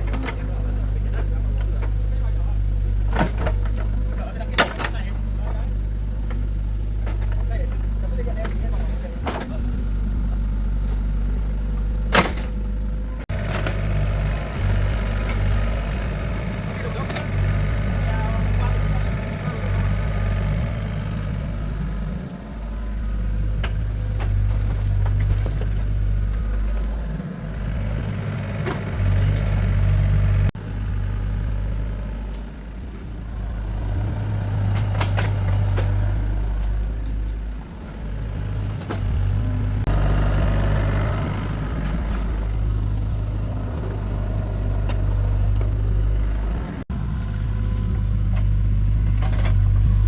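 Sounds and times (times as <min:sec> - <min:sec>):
excavator diesel engine humming: 0:00.0 - 0:50.0.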